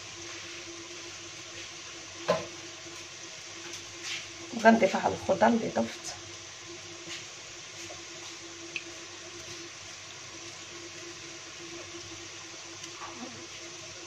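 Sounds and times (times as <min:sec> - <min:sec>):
steady hiss and low hum: 0:00.0 - 0:14.0.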